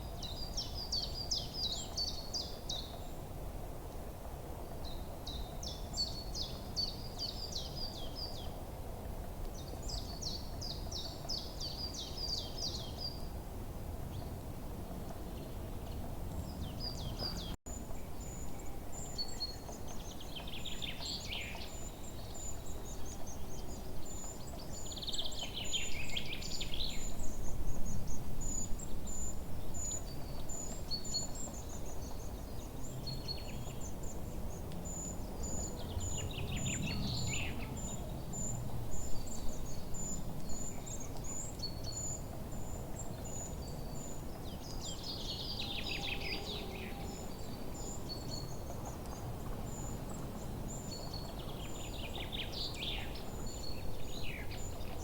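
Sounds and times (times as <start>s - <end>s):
low steady background noise: 0.0s - 55.0s.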